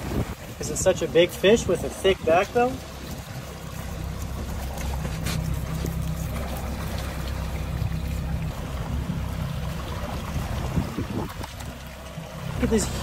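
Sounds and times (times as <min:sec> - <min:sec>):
outboard motors idling: 0:00.0 - 0:13.0
water sloshing against hull: 0:00.0 - 0:13.0.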